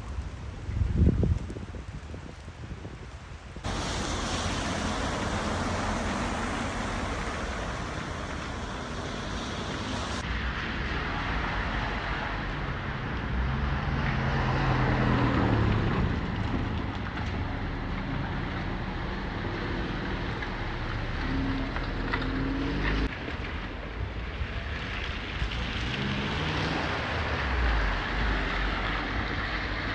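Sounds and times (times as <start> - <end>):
steady rain: 0.0 - 29.9
passing vehicle engines: 3.7 - 23.4, 24.4 - 29.9.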